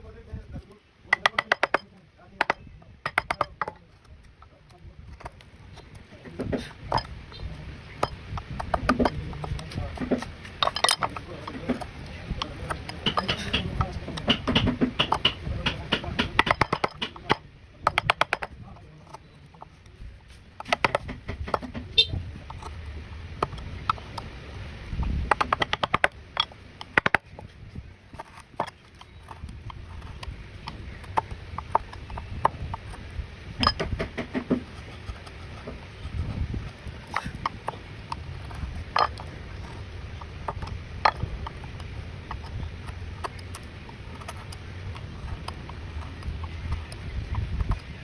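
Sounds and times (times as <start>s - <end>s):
sharp taps and clicks: 1.1s - 4.5s, 8.0s - 19.7s, 20.6s - 22.8s, 25.3s - 27.5s, 28.1s - 48.0s.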